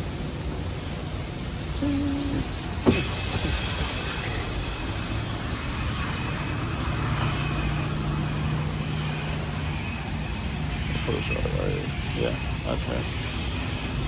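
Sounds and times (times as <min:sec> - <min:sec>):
car engine running: 0:00.0 - 0:14.0
rushing noise: 0:00.0 - 0:14.0
low hum: 0:01.6 - 0:13.9.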